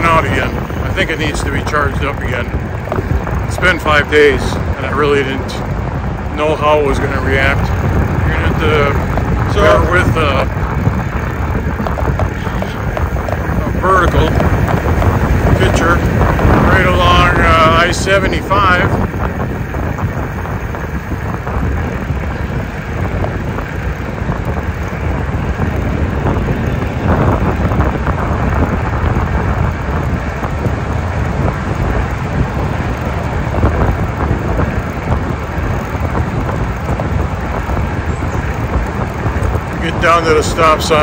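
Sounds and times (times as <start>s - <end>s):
road traffic noise: 0.0s - 41.0s
wind on microphone: 0.0s - 41.0s.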